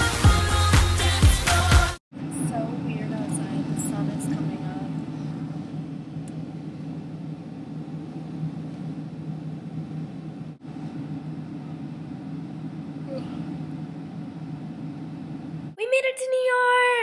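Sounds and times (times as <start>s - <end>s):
airliner cabin drone: 2.1s - 15.8s.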